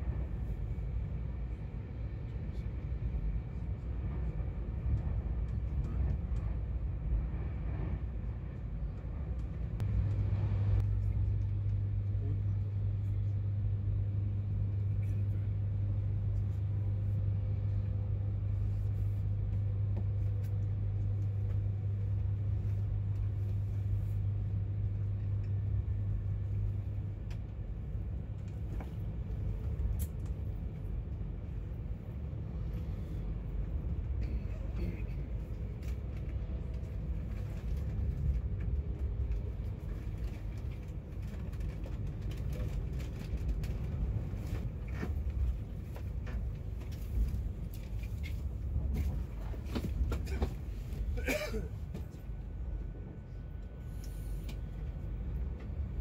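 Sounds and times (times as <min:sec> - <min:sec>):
low steady hum: 0:00.0 - 0:56.0
train rumbling on track: 0:00.0 - 0:56.0.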